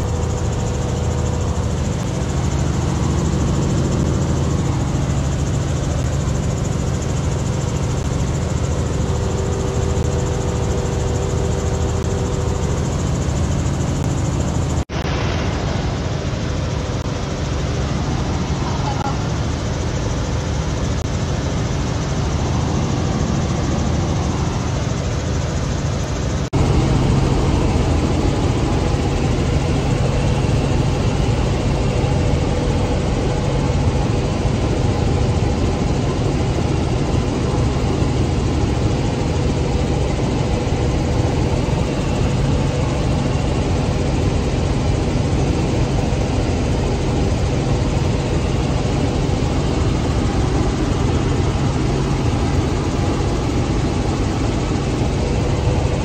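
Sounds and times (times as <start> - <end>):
helicopter drone inside cabin: 0.0 - 56.0.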